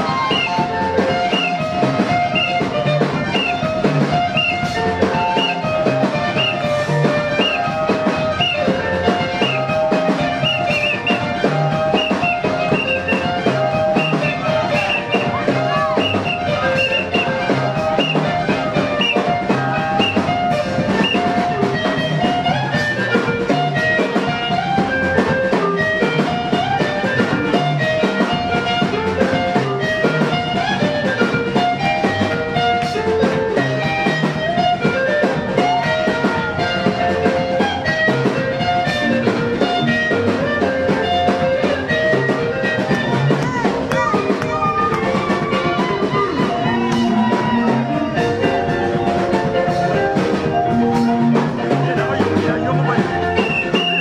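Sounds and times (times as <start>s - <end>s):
gospel dance music: 0.0s - 54.0s.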